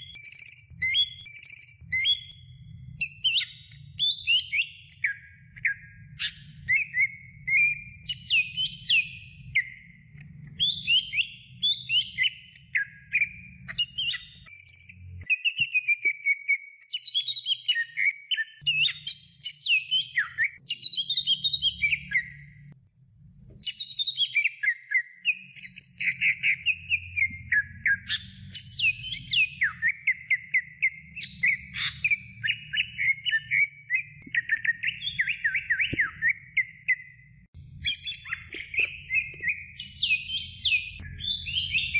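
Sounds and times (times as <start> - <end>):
bird singing chirps and whistles: 0.0 - 22.8, 23.6 - 41.9.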